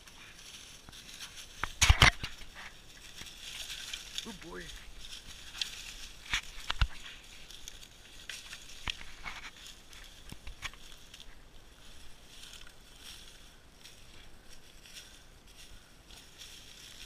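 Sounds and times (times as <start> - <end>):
footsteps crunching through leaves: 0.0 - 17.0
twigs snapping underfoot: 0.0 - 17.0.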